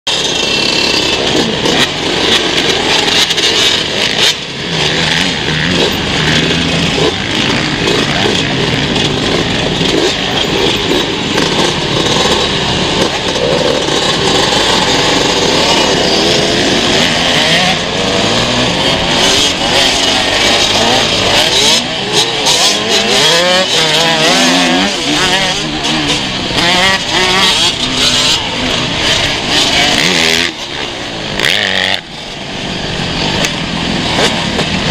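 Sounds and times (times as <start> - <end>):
motocross engines revving: 0.1 - 34.9.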